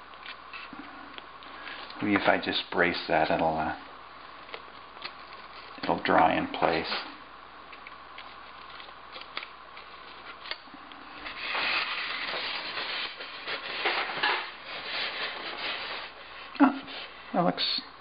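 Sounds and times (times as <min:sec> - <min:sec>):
rubbing and rustling handling noise: 0:00.0 - 0:17.3.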